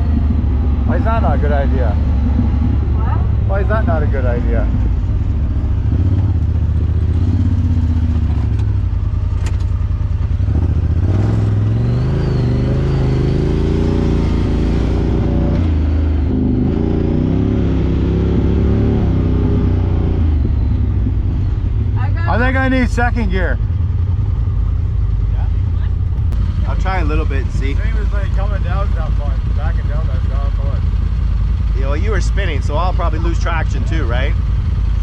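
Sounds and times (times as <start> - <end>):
engine revving under load: 0.0 - 35.0.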